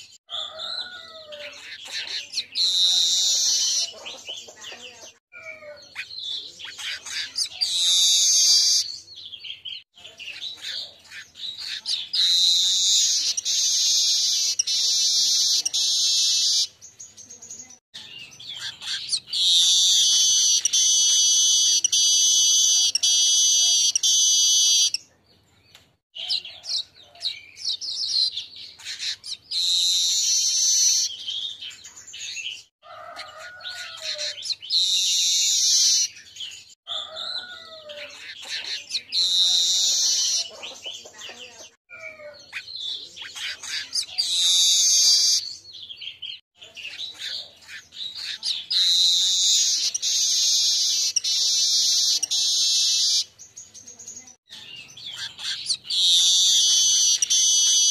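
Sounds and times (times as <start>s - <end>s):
weaver bird singing: 0.0s - 57.9s.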